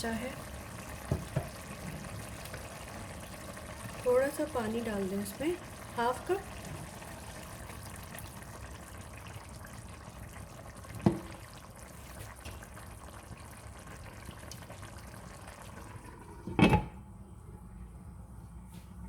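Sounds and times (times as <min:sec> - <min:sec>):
water pouring into a pot: 0:00.0 - 0:16.5.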